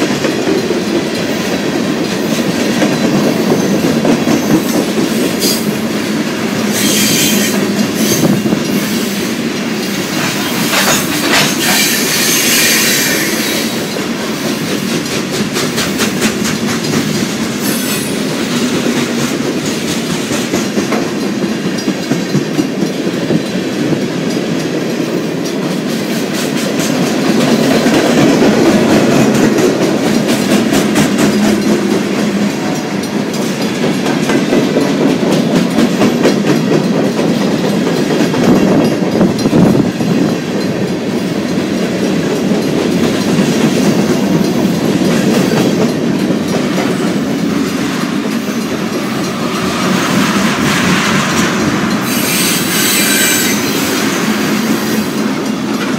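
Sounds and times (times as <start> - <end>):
freight train rumbling past: 0.0 - 55.9
wheels clattering over rail joints: 0.0 - 55.9.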